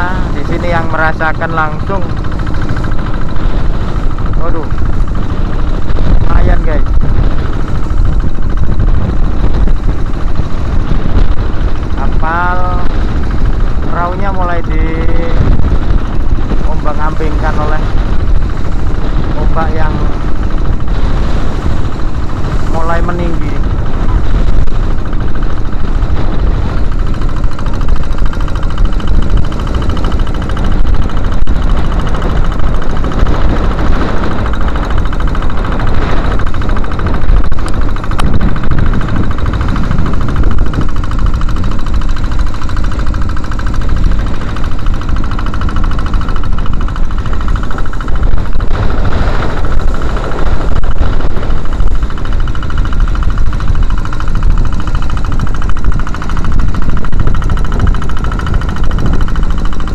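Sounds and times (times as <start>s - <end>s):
boat diesel engine running: 0.0s - 59.9s
wind rumbling on microphone: 0.0s - 59.9s.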